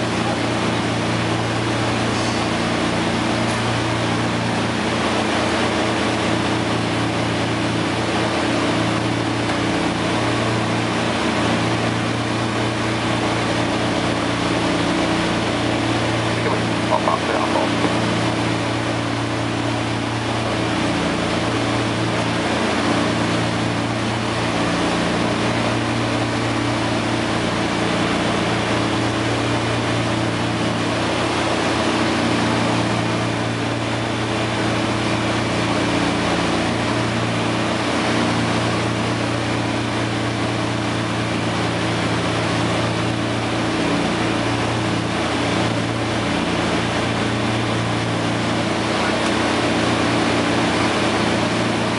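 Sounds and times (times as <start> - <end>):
propeller airplane engines droning: 0.0 - 51.9.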